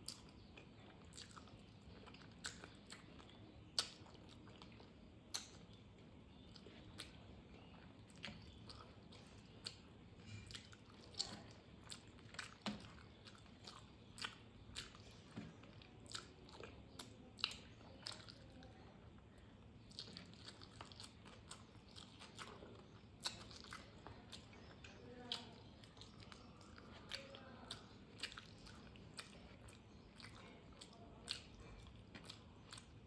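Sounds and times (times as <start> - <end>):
person chewing: 0.0 - 33.0.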